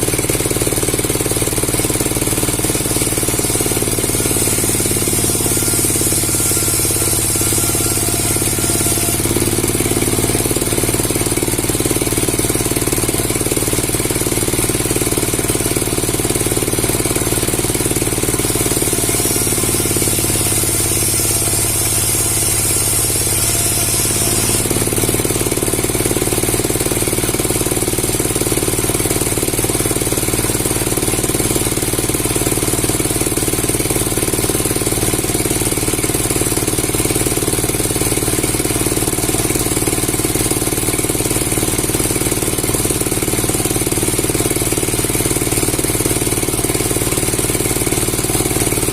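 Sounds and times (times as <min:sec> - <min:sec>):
heavy machine knocking rattle: 0:00.0 - 0:48.9.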